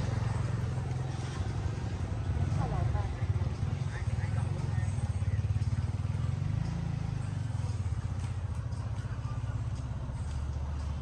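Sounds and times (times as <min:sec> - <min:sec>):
engine running with rapid throb: 0:00.0 - 0:11.0.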